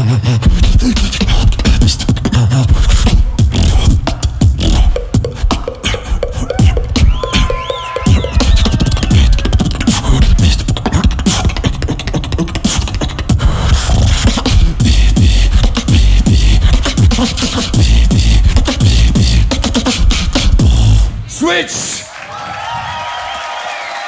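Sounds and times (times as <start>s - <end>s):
beatboxing: 0.0s - 21.2s.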